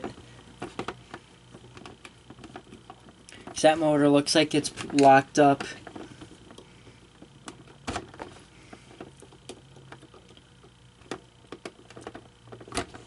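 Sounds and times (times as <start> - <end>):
plastic parts clicking and tapping: 0.0 - 3.7, 4.3 - 13.0.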